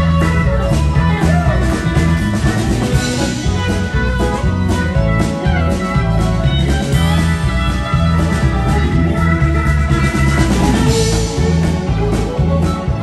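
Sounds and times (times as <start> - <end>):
drum kit beat: 0.0 - 13.0
electric guitar lines: 0.0 - 13.0
pulsing bass guitar: 0.0 - 13.0.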